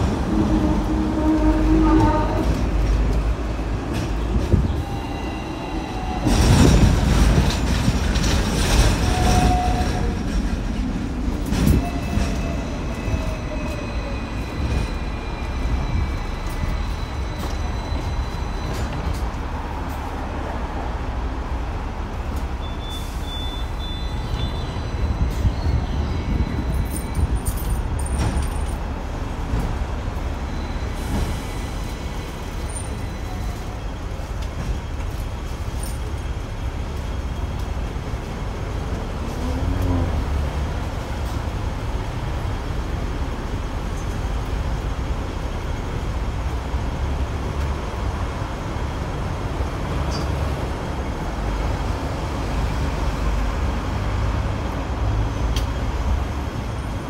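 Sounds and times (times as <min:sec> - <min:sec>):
road traffic: 0:00.0 - 0:57.0
tram rumbling: 0:00.0 - 0:57.0.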